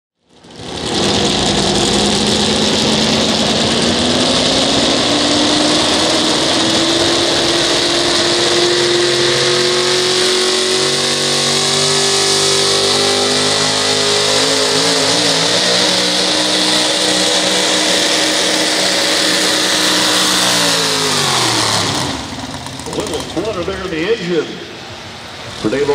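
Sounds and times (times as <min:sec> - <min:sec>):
truck engine revving high under load: 0:00.2 - 0:25.9.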